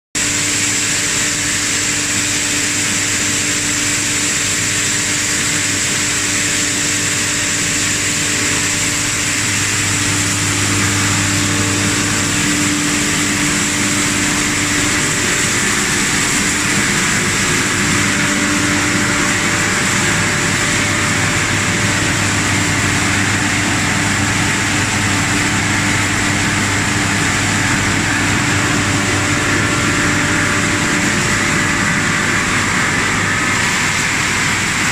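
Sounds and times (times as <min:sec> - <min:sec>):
industrial machine din: 0:04.8 - 0:34.9
high whine: 0:05.4 - 0:34.9
electric motor hum: 0:06.9 - 0:34.9.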